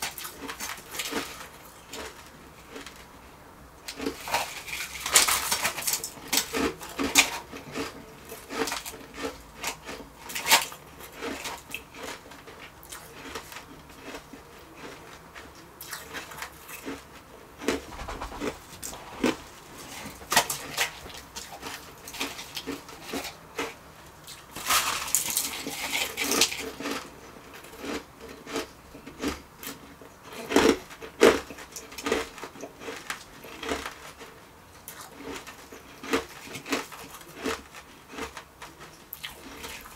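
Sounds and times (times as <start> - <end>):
crunching and chewing ice: 0.0 - 3.1, 3.9 - 17.0, 20.7 - 39.9.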